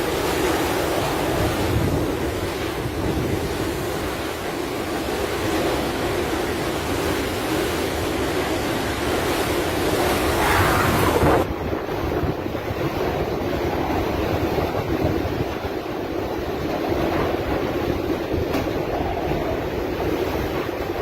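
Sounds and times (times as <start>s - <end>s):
storm wind buffeting microphone: 0.0s - 21.0s.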